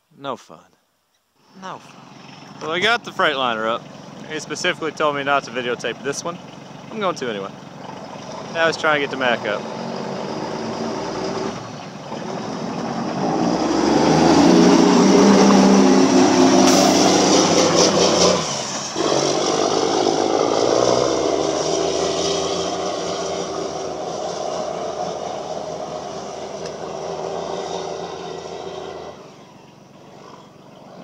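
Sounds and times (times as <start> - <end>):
diesel truck engine pulling hard: 1.9 - 31.0.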